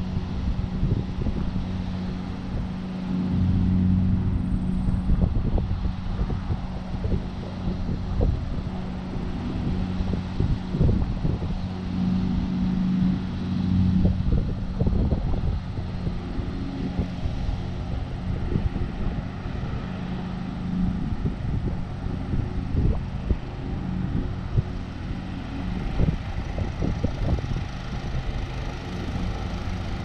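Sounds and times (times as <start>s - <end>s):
lawn tractor engine mowing: 0.0s - 30.0s
wind buffeting microphone: 0.0s - 30.0s.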